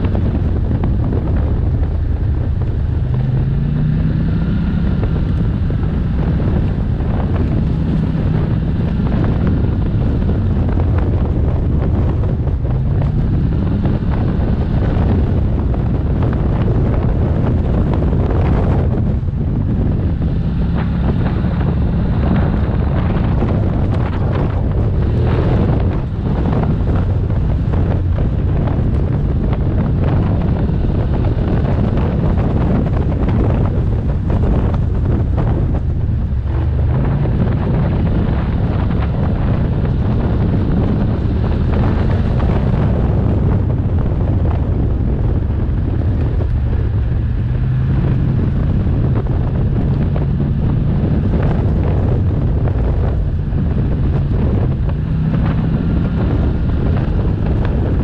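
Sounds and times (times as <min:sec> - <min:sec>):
quad engine running: 0:00.0 - 0:58.0
wind buffeting microphone: 0:00.0 - 0:58.0.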